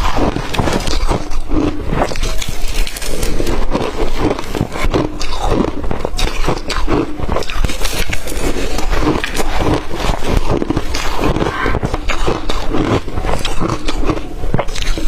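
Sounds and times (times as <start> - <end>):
crushed ice being chewed: 0.0 - 15.0.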